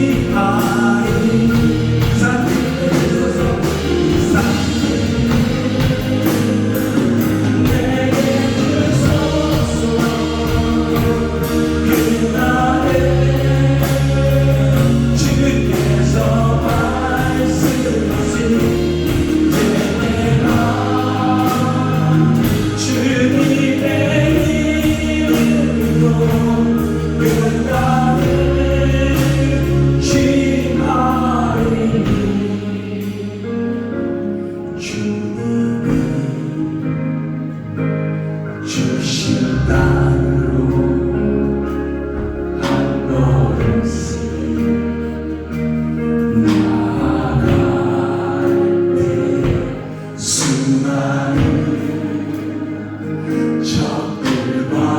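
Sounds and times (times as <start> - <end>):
steady drum beat: 0.0 - 33.3, 42.1 - 54.9
group singing worship song: 0.0 - 37.6, 38.5 - 54.9
bass line: 0.0 - 54.9.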